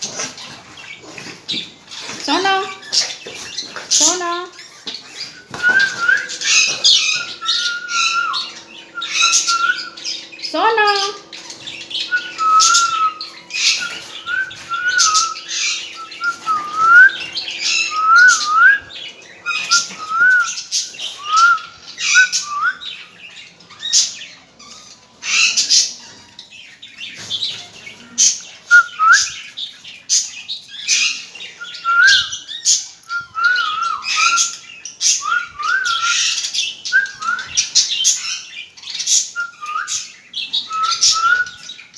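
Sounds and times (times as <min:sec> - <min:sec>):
parrots chirping and squawking: 0:00.0 - 0:41.9.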